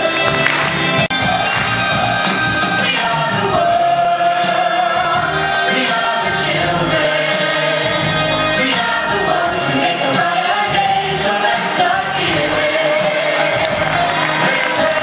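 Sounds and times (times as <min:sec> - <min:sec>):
large choir singing with music: 0:00.0 - 0:15.0.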